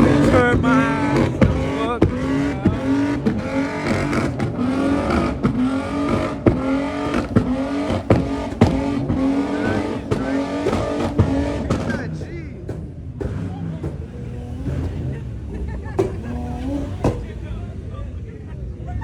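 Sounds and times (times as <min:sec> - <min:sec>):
sharp exhaust cracks: 0:00.0 - 0:17.9
car engine at high revs: 0:00.0 - 0:19.0.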